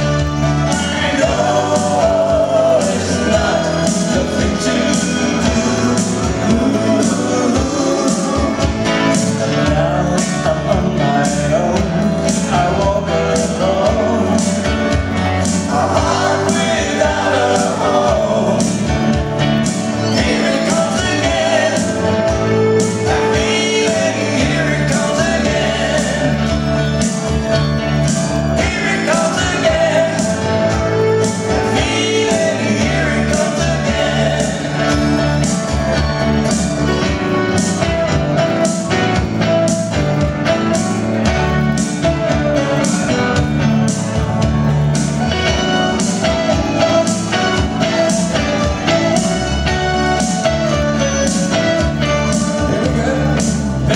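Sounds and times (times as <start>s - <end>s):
man singing: 0.0s - 27.3s, 28.4s - 36.0s, 45.5s - 53.9s
pop-rock band playing: 0.0s - 53.9s.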